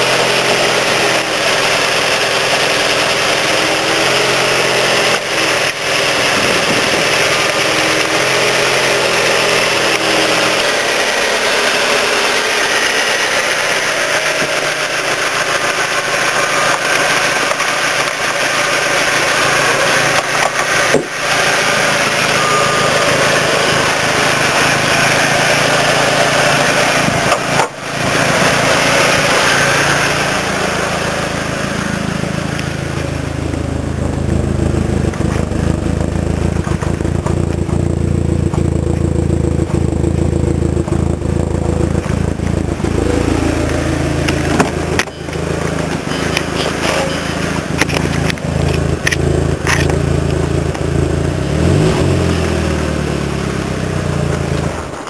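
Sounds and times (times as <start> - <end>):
turbocharged car engine running: 0.0 - 55.0.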